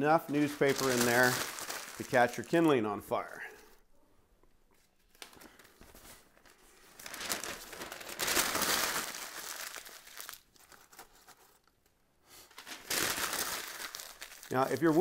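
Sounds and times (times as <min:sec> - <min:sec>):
newspaper rustling and crumpling: 0:00.2 - 0:03.2, 0:05.0 - 0:11.7, 0:12.4 - 0:15.0.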